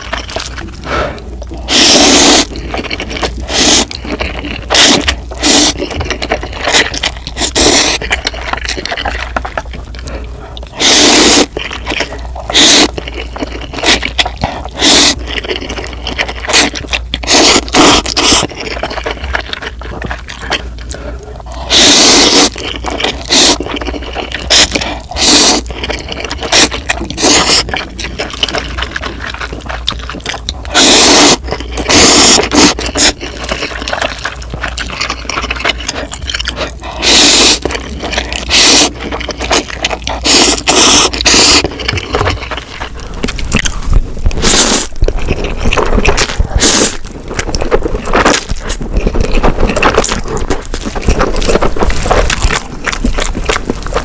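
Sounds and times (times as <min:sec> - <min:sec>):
noodle slurping: 0:00.0 - 0:54.0
wet chewing and smacking: 0:00.0 - 0:54.0.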